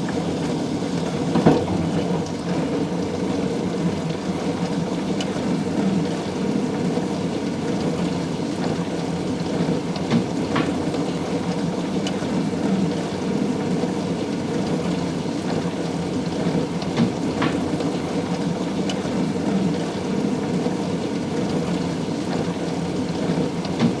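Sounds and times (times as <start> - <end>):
circulation pump: 0.0 - 24.0.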